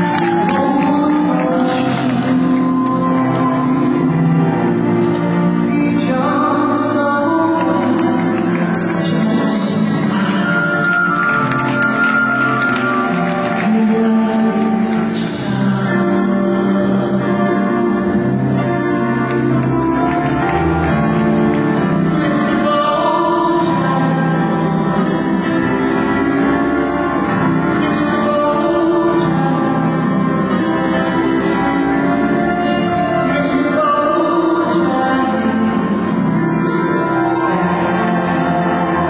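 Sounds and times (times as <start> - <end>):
music with singing over loudspeakers: 0.0 - 39.0.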